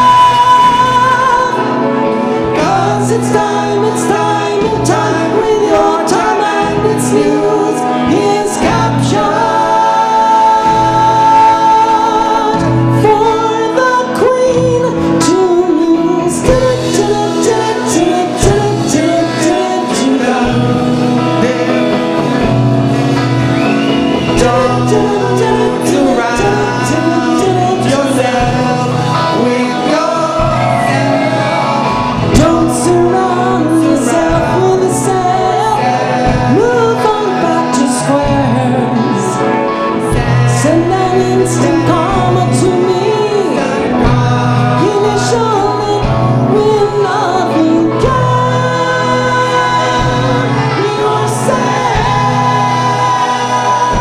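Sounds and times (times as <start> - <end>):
backing singers: 0.0 - 54.0
live soul band: 0.0 - 54.0
man singing lead: 0.0 - 54.0.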